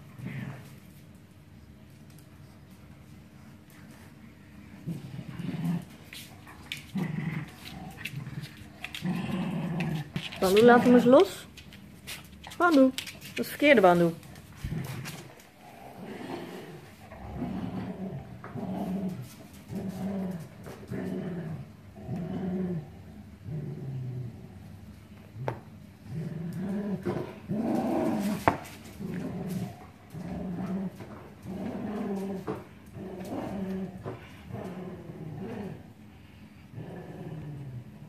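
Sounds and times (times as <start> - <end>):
dogs growling in play: 0.0 - 11.6, 12.7 - 38.0.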